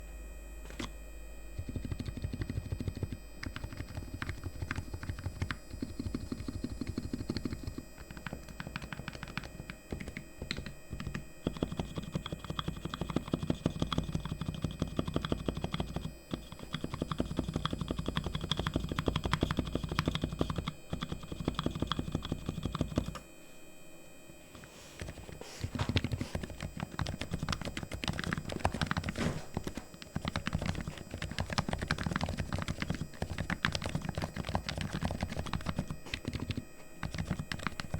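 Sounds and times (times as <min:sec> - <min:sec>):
fast typing on keyboard: 0:01.6 - 0:23.2, 0:25.0 - 0:37.9.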